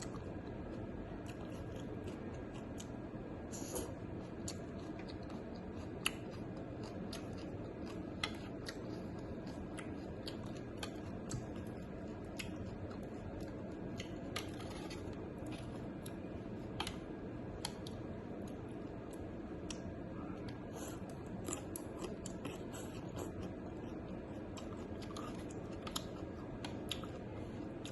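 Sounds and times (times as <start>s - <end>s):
crisp chewing crunches: 0.0s - 19.9s, 21.0s - 27.9s.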